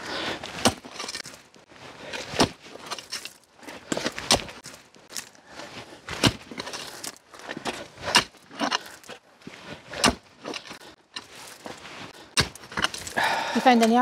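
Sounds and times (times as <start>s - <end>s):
soil scraping and crunching: 0.0s - 14.0s
digging tool striking ground: 0.4s - 5.4s, 6.0s - 14.0s.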